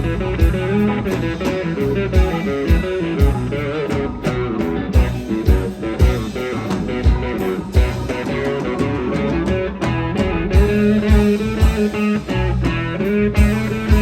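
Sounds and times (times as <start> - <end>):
electric guitar lines: 0.0 - 14.0
live blues-rock band: 0.0 - 14.0.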